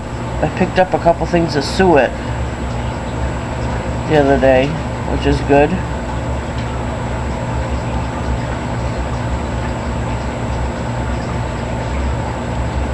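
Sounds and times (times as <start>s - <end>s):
low mechanical rumble: 0.0s - 12.9s.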